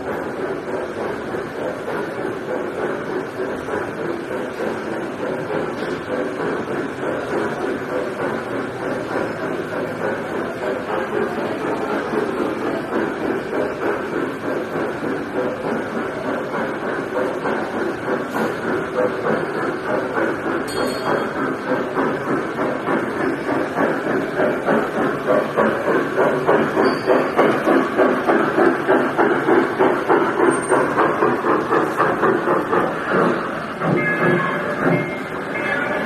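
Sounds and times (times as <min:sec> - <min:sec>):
ride-on train chugging: 0:00.0 - 0:36.0
steady background noise: 0:00.0 - 0:36.0.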